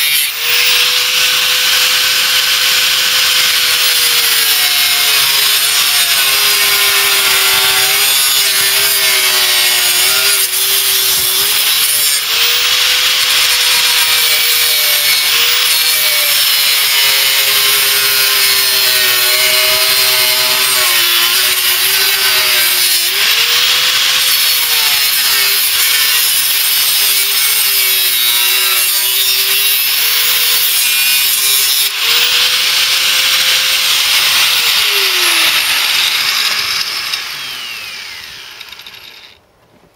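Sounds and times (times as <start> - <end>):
angle grinder cutting steel: 0.0 - 39.4.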